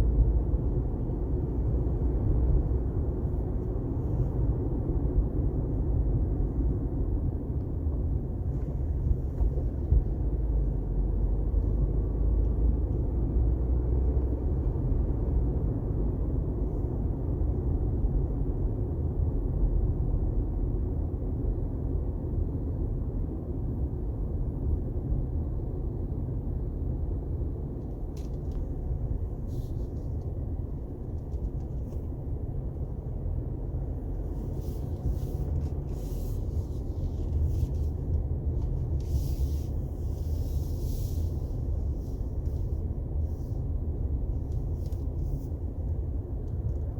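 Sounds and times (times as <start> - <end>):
car driving on highway: 0.0 - 46.9.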